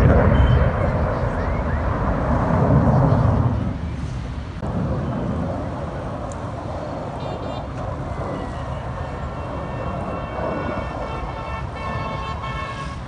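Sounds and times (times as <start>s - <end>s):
distant jet engine rumble: 0.0s - 13.0s.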